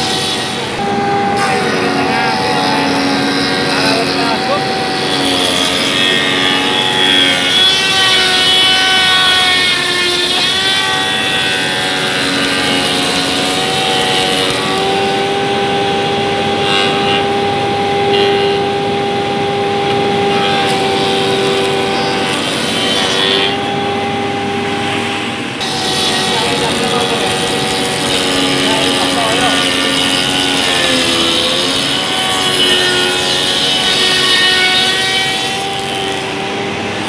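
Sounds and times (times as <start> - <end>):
thickness planer planing wood: 0.0 - 37.0.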